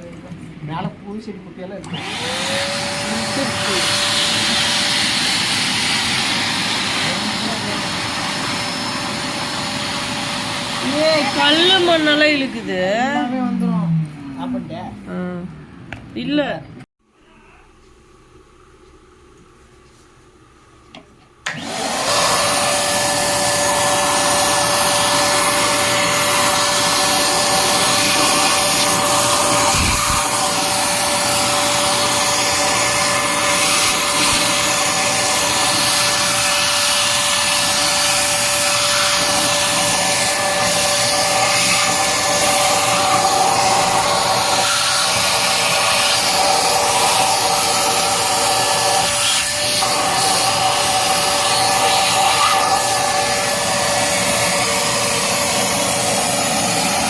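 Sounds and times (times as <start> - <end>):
vacuum cleaner running: 1.7 - 15.3, 21.4 - 57.0.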